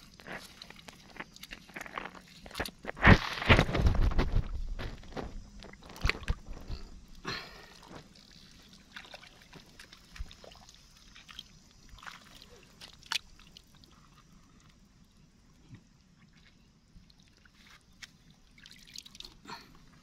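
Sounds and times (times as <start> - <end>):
mud squelching and sloshing: 0.0 - 14.8, 16.2 - 20.0.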